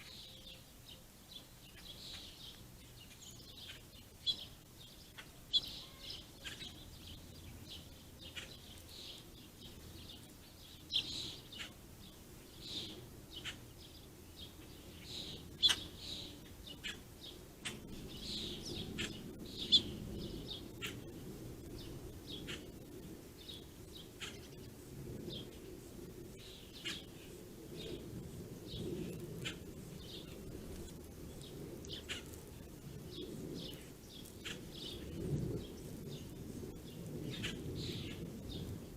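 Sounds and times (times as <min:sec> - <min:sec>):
low background rumble: 0:00.0 - 0:38.9
small birds chirping: 0:00.0 - 0:38.9.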